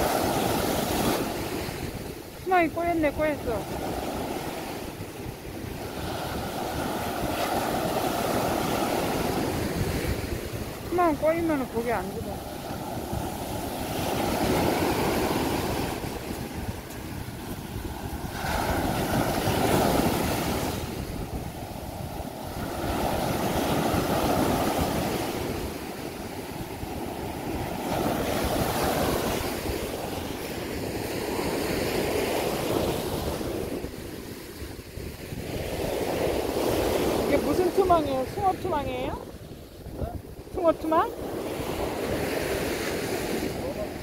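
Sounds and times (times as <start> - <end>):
surf breaking on beach: 0.0 - 44.0
wind on microphone: 0.0 - 44.0.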